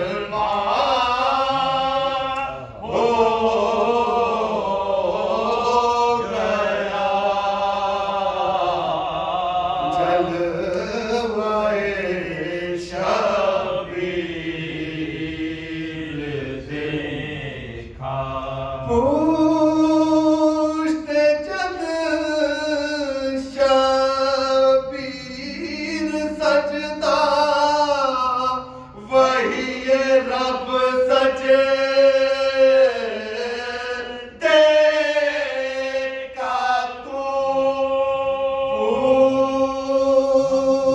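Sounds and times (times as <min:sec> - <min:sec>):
men singing along: 0:00.0 - 0:40.9.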